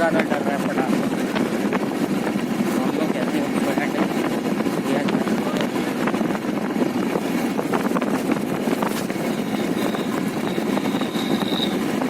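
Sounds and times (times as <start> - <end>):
motorcycle riding: 0.0 - 12.0
wind noise: 0.0 - 12.0.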